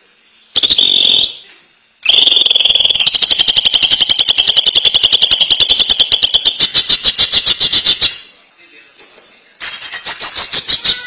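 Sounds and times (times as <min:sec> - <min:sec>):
bird singing rapid rattle: 0:00.3 - 0:08.3, 0:09.0 - 0:11.0.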